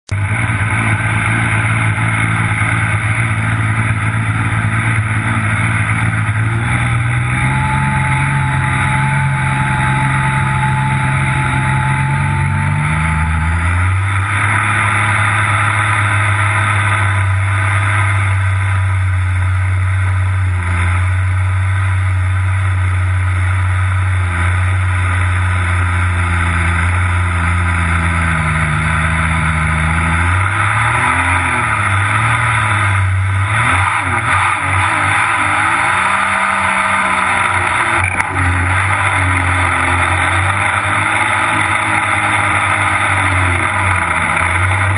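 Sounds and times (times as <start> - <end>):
supercharged engine running: 0.0 - 44.9
thin high whine: 0.1 - 44.9.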